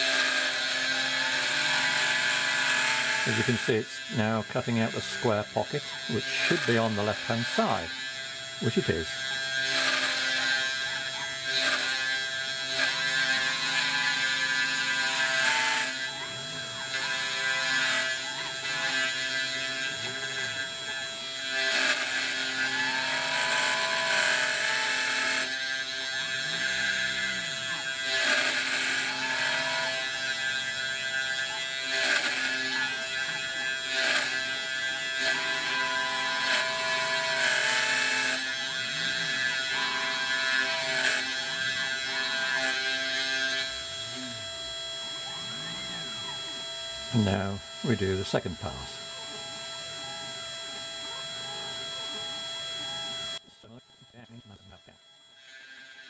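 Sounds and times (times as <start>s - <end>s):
cnc mill spindle whine: 0.0s - 56.0s
milling cutting noise: 0.0s - 56.0s.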